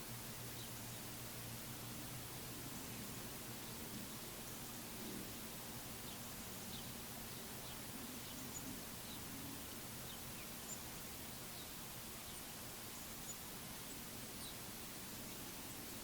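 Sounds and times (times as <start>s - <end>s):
small songbirds chirping: 0.0s - 16.0s
steady outdoor hiss: 0.0s - 16.0s.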